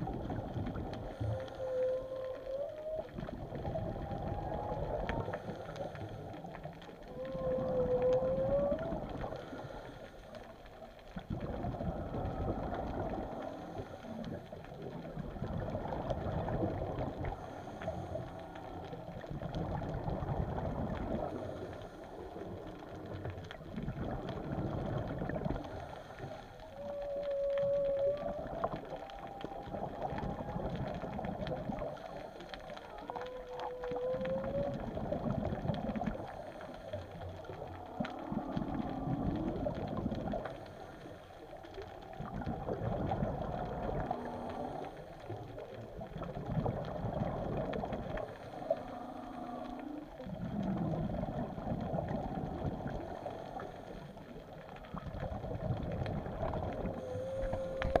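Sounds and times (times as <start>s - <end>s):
humpback whale song underwater: 0.0s - 58.0s.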